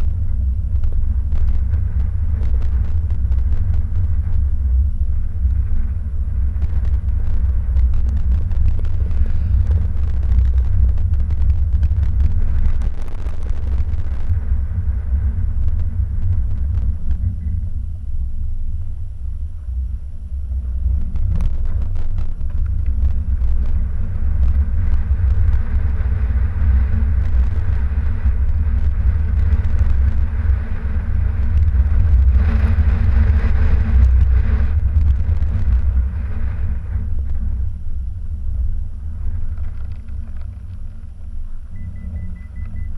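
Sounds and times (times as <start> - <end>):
car tyres on snowy road: 0.0 - 42.9.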